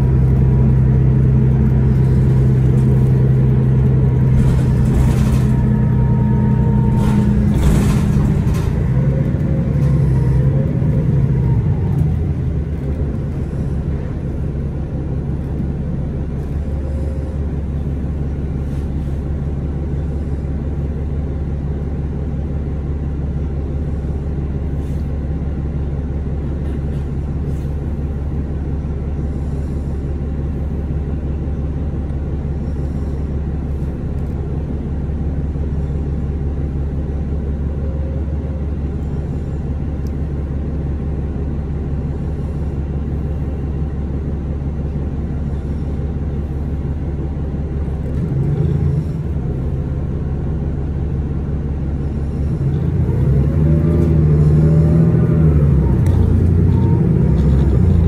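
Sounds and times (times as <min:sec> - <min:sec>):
bus diesel engine humming: 0:00.0 - 0:58.0.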